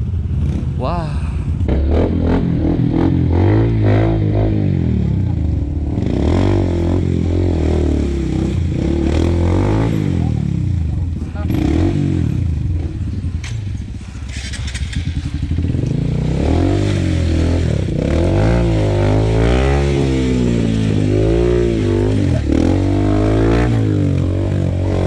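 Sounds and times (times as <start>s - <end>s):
dirt bike engine revving: 1.6s - 25.0s.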